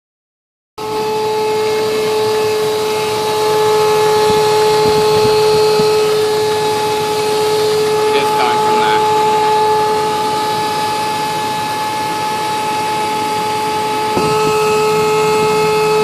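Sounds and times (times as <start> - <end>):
steady whining tone: 0.8 - 16.0.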